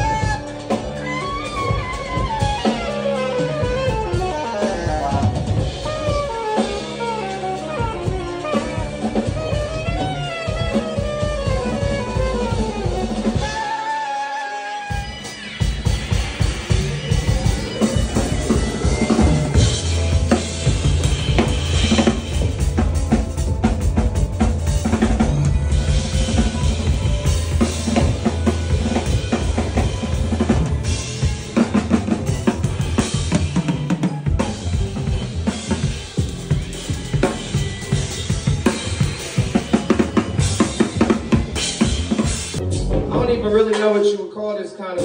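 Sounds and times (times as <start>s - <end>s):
drum kit playing a groove: 0.0s - 44.2s.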